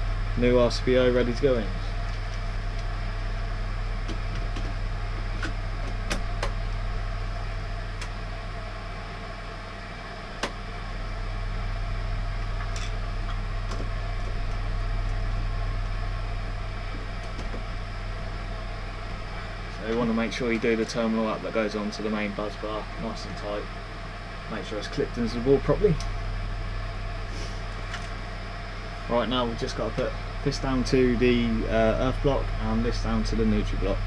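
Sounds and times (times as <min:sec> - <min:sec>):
machinery hum: 0:00.0 - 0:34.0.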